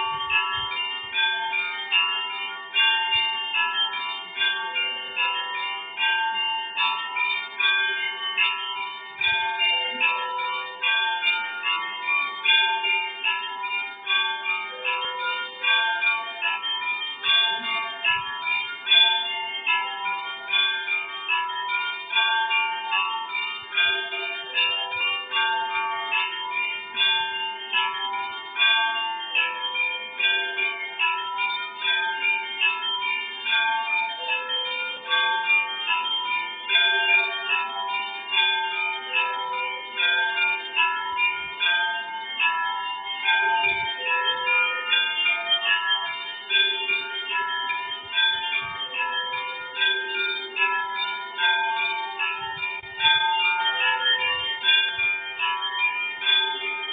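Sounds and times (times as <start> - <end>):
church bells pealing: 0.0 - 56.9
steady low bell tone: 0.0 - 56.9.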